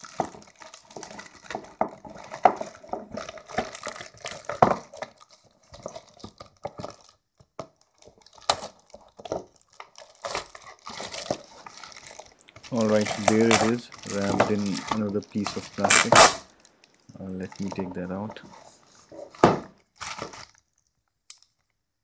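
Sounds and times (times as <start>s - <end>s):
cardboard packaging rustling: 0.0s - 20.9s.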